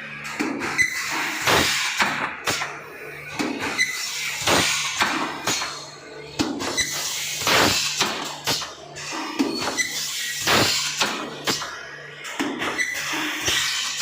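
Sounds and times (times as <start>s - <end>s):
machine knocking and clattering: 0.1s - 14.0s.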